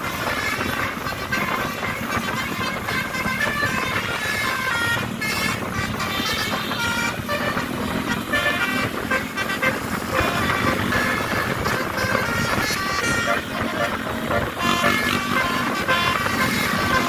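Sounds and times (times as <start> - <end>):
multi-tone bus horn tune: 0.0 - 17.0.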